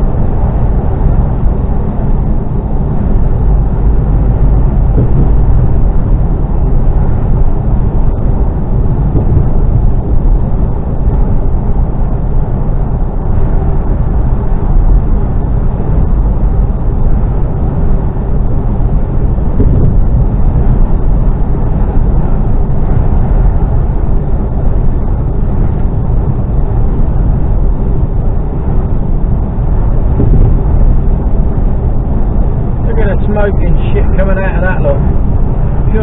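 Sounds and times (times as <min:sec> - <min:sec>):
lorry engine and road rumble: 0:00.0 - 0:36.0.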